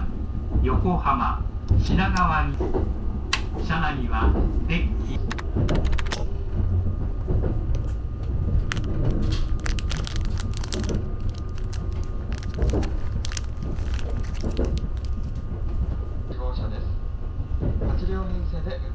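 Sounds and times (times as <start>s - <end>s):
train rumble from inside: 0.0s - 18.9s.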